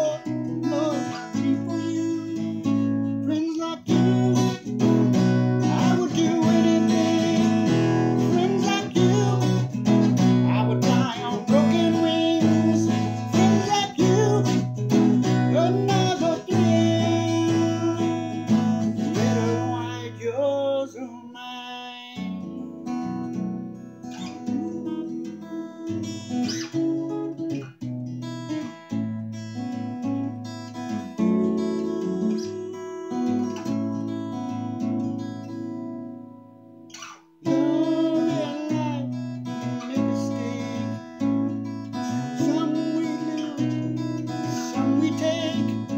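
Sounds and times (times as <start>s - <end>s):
man singing: 0.0s - 23.0s, 24.1s - 27.5s, 31.0s - 34.2s, 37.4s - 45.9s
acoustic guitar: 0.0s - 45.9s.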